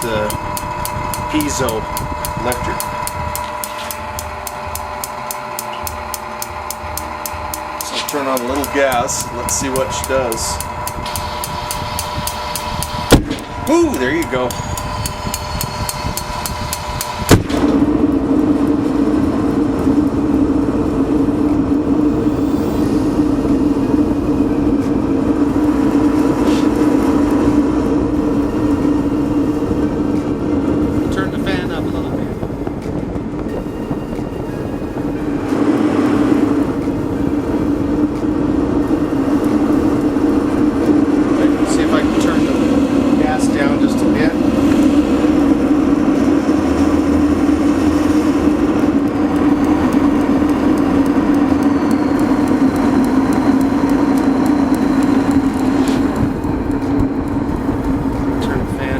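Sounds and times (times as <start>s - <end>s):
rapid igniter clicking: 0.0s - 34.3s, 35.7s - 58.9s
propane heater fan and flame: 0.0s - 58.9s.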